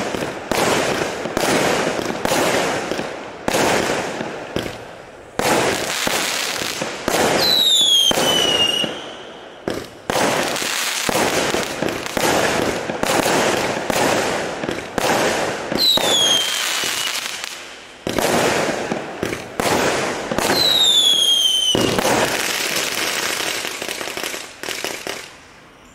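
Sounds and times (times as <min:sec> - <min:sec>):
firework launch pops and bursts: 0:00.0 - 0:09.0, 0:09.6 - 0:25.3.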